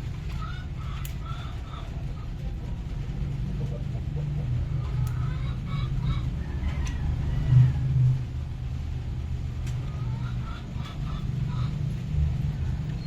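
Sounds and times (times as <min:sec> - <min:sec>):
engine running with low hum: 0:00.0 - 0:13.0.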